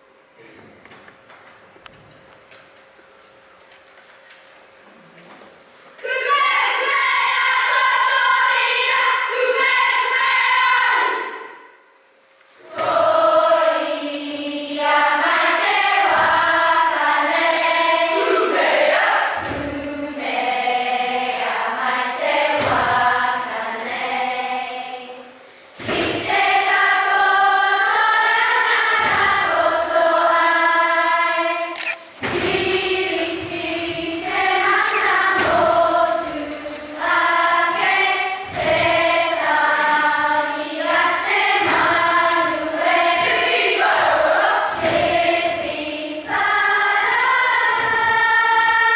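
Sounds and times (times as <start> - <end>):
children singing together: 6.0 - 11.7, 12.6 - 48.9.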